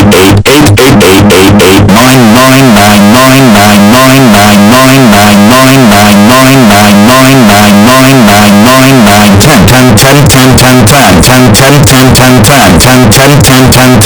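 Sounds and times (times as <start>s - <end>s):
looping rising and falling phrase: 0.0s - 14.0s.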